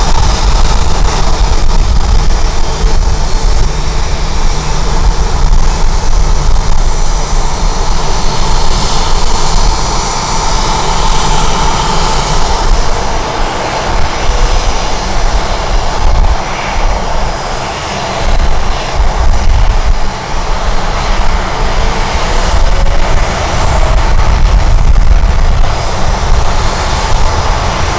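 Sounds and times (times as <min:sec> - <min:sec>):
jet engines roaring: 0:00.0 - 0:27.9
wind noise on microphone: 0:00.0 - 0:27.9.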